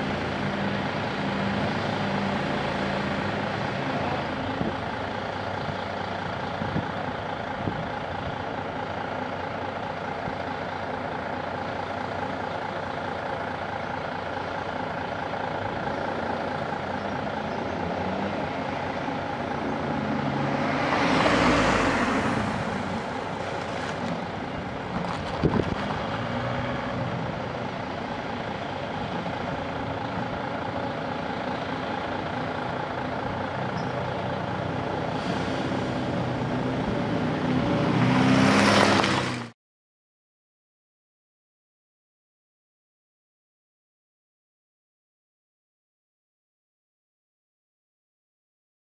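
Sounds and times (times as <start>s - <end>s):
diesel engines running: 0.0s - 39.6s.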